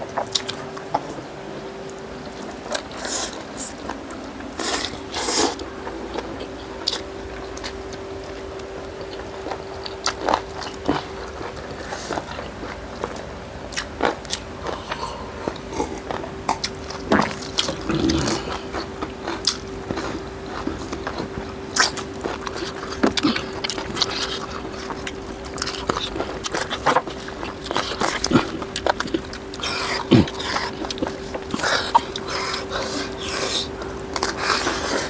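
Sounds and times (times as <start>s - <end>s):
faint steady hum: 0.0s - 35.0s
moist chewing and lip-smacking: 0.1s - 35.0s.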